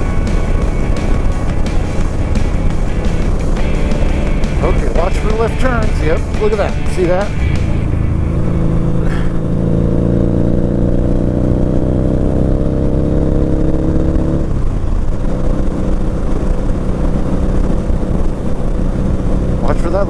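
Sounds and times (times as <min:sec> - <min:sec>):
motorcycle engine under throttle: 0:00.0 - 0:20.0.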